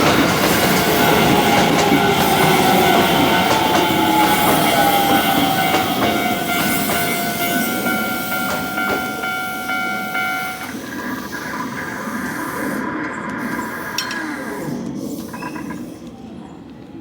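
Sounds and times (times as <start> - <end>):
electric train running on rails: 0.0 - 17.0.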